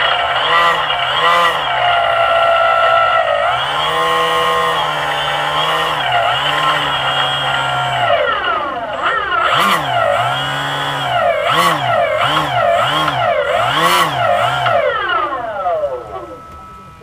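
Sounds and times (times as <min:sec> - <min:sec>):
model aircraft engine revving: 0:00.0 - 0:17.0.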